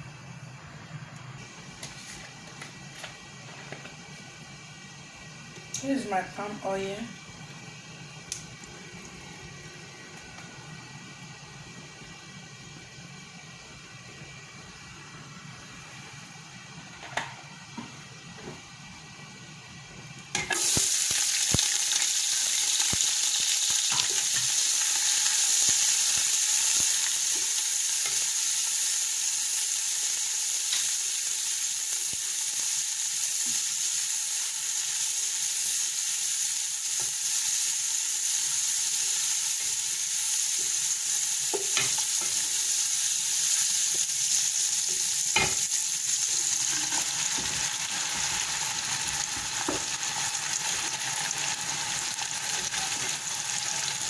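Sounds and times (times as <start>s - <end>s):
oil sizzling in a pot: 1.4s - 54.0s.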